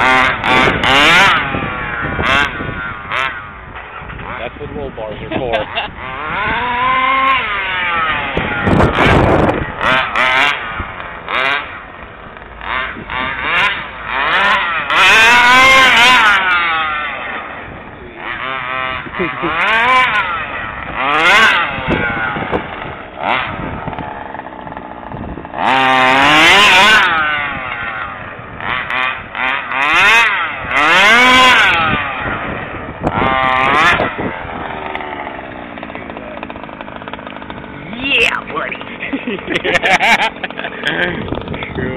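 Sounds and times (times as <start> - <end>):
two-stroke engine revving: 0.0 - 41.9.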